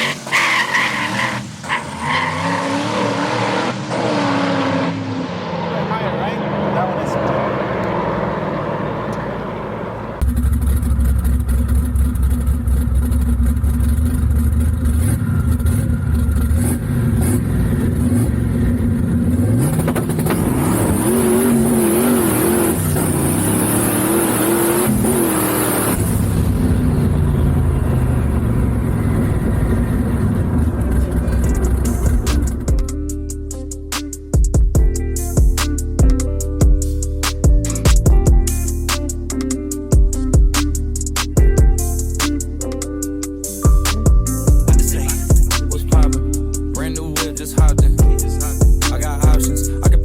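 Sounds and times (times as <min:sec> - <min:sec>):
car engine revving: 0:00.0 - 0:34.3, 0:34.9 - 0:50.0.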